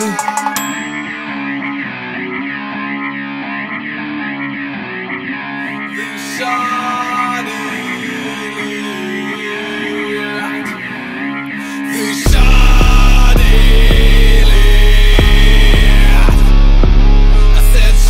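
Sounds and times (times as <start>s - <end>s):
guitar with wavering tone: 0.1s - 18.0s.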